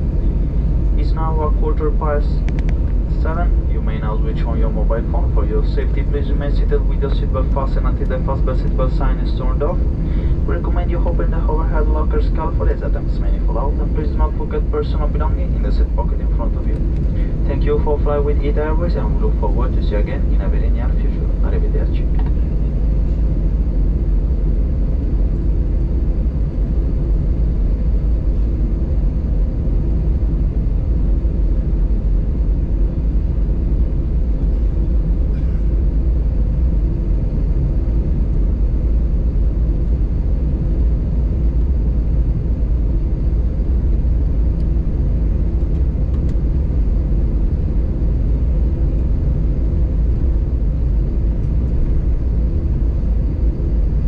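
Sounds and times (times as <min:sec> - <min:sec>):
aircraft cabin drone: 0:00.0 - 0:54.0
faint steady hums: 0:00.0 - 0:54.0.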